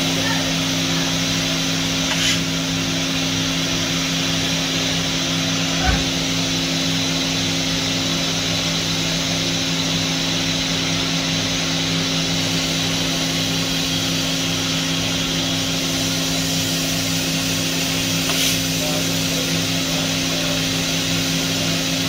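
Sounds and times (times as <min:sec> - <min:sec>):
machine hum with low throb: 0:00.0 - 0:22.0.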